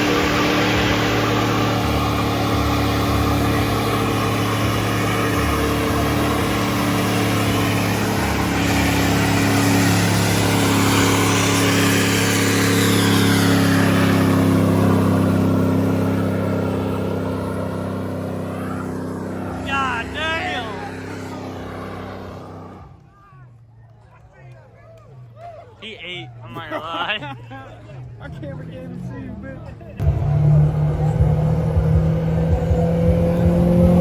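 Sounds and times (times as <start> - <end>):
car engine revving high: 0.0 - 23.0, 27.9 - 34.0.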